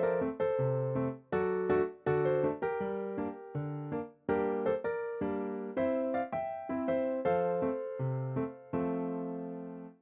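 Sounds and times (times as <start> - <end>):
gentle piano chords: 0.0 - 10.0.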